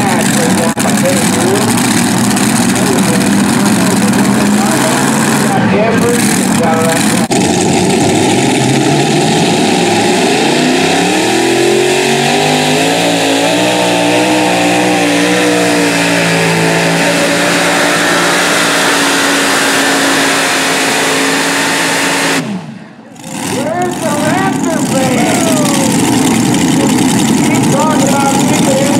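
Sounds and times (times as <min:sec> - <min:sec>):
pulling tractor engine roaring: 0:00.0 - 0:28.9.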